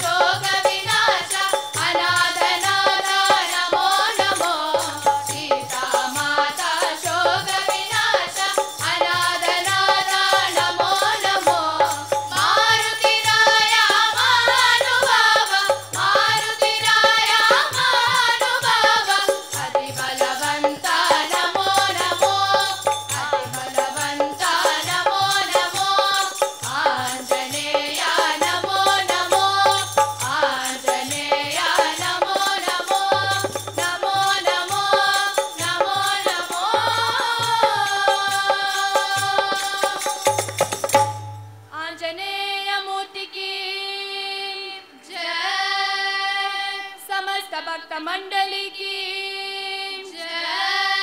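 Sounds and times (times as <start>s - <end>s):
children singing in unison: 0.0s - 40.2s, 42.0s - 47.5s, 48.3s - 51.0s
hand drum rhythm: 0.0s - 41.6s.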